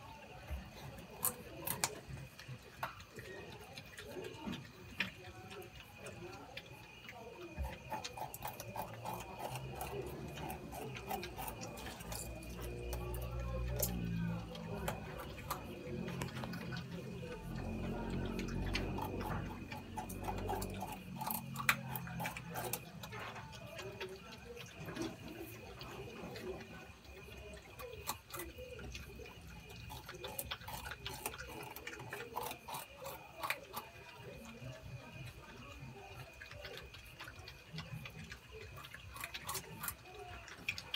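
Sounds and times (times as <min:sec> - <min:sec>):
porcupines chewing and gnawing: 0:00.0 - 0:40.9.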